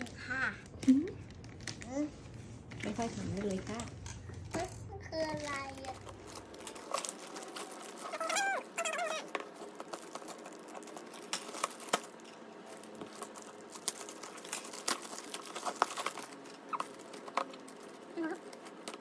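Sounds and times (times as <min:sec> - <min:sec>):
plastic bag crinkling: 0:00.6 - 0:19.0.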